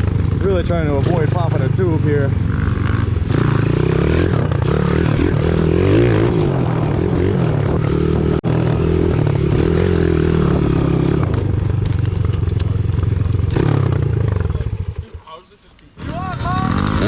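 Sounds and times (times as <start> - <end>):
motorbike engine revving: 0.0 - 15.3, 16.0 - 17.0.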